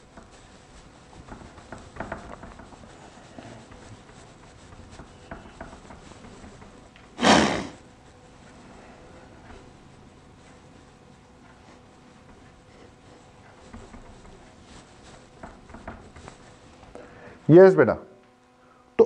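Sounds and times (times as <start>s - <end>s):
whiteboard being wiped: 0.3s - 16.7s.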